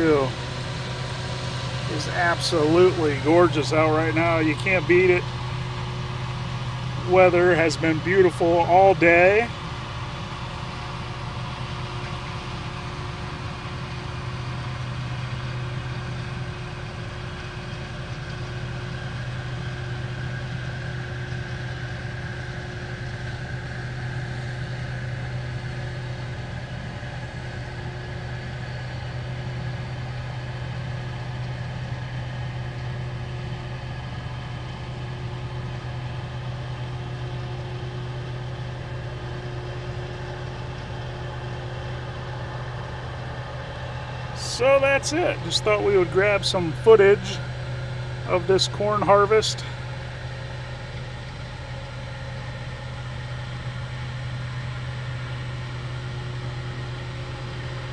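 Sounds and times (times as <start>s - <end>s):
engine humming steadily: 0.0s - 57.9s.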